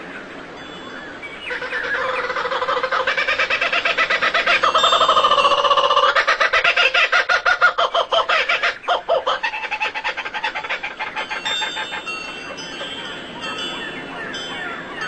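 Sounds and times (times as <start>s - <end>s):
bird clucking call: 1.4s - 15.0s.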